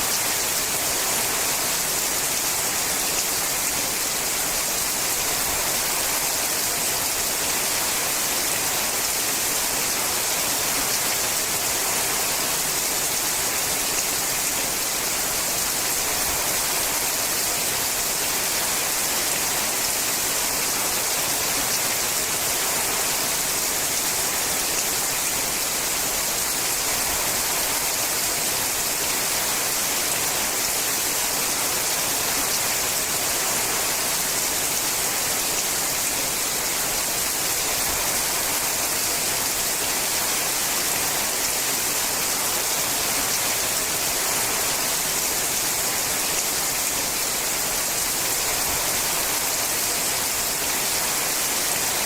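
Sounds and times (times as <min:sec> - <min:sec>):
heavy rain on a metal roof: 0:00.0 - 0:52.0.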